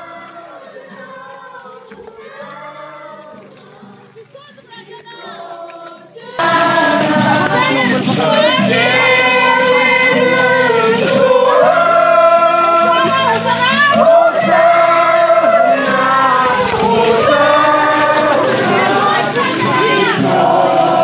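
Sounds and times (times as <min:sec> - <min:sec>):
choir singing a hymn: 0:00.0 - 0:04.2, 0:05.2 - 0:21.0.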